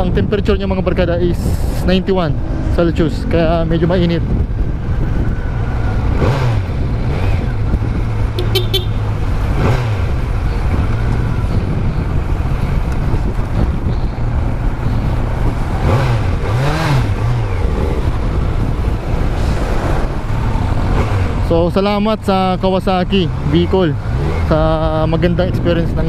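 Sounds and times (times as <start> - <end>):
motorcycle engine droning: 2.0 - 26.0.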